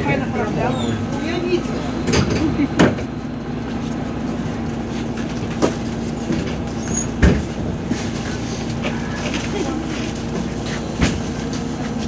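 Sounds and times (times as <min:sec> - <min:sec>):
bus body knocking and rattling: 0:00.0 - 0:12.0
bus engine and road noise: 0:00.0 - 0:12.0.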